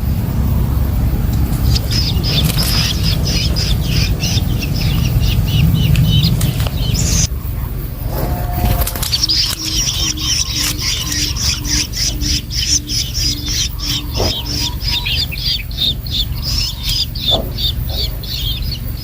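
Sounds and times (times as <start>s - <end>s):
birds chirping rapidly: 0.0s - 19.0s
low rumble: 0.0s - 19.0s.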